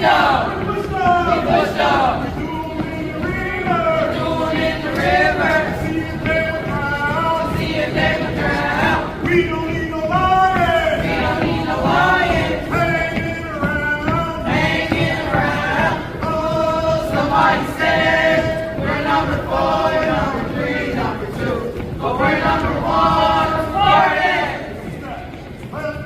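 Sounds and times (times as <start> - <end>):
group of voices singing: 0.0 - 26.0.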